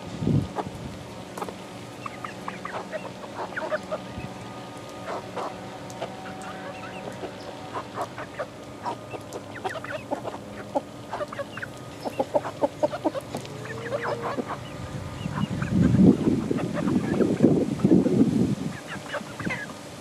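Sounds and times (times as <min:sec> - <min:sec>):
chickens clucking and peeping: 0:00.0 - 0:20.0.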